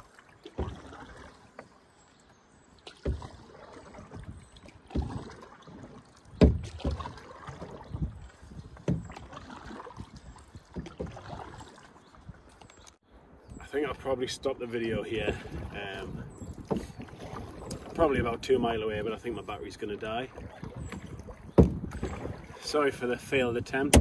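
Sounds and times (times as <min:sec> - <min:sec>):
canoe paddle splashing in water: 0:00.0 - 0:13.0, 0:14.8 - 0:24.0.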